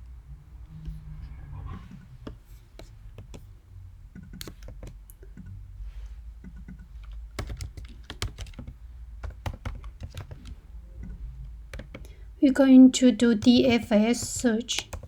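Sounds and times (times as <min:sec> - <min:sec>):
computer keyboard typing: 0:01.8 - 0:05.6, 0:06.3 - 0:15.0.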